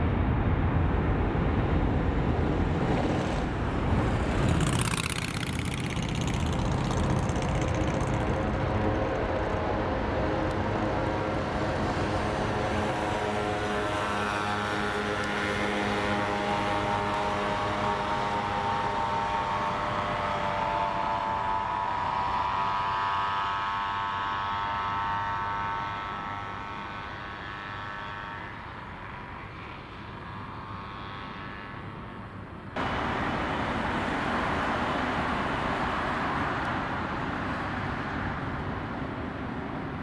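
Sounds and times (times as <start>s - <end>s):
jet engines whining at takeoff: 0.0s - 40.0s.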